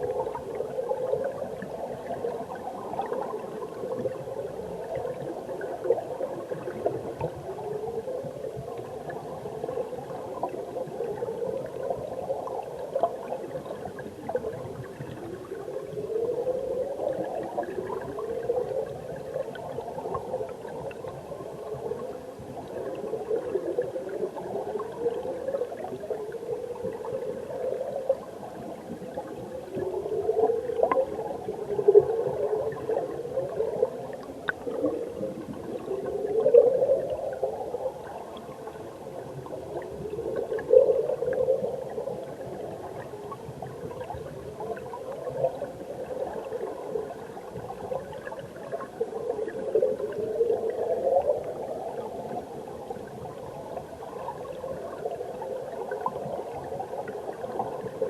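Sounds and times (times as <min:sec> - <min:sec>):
underwater stream gurgling: 0:00.0 - 0:58.0.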